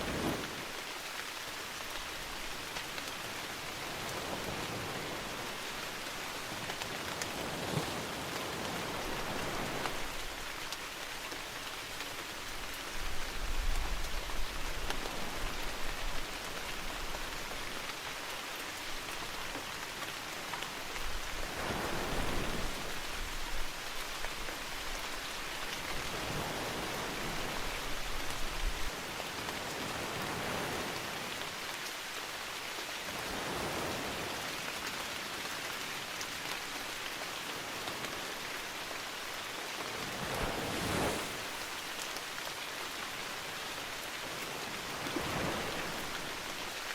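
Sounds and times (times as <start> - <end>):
heavy rain on foliage: 0.0 - 46.9.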